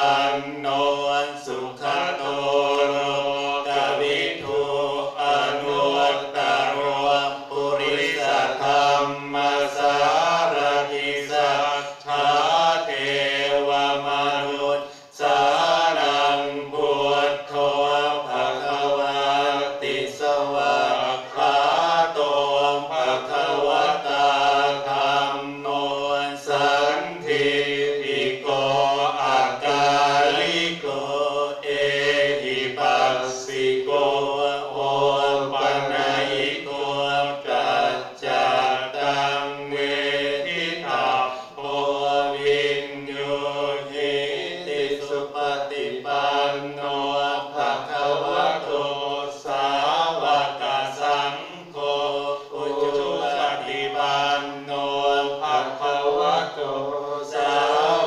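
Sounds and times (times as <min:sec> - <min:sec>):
group of voices chanting: 0:00.0 - 0:58.0.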